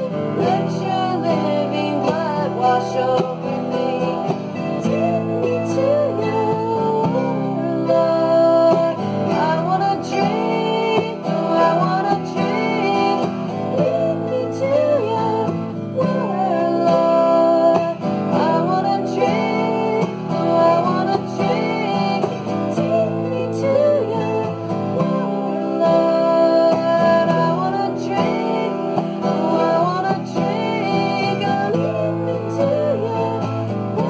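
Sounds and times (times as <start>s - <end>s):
acoustic guitar strumming: 0.0s - 34.0s
mandolin playing: 0.0s - 34.0s
woman singing worship song: 0.0s - 34.0s.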